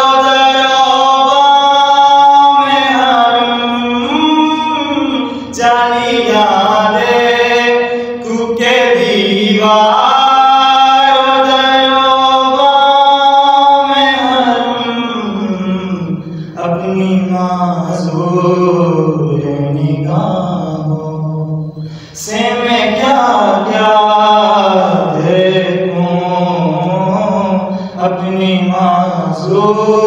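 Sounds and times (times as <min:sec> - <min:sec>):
man singing unaccompanied: 0:00.0 - 0:30.0.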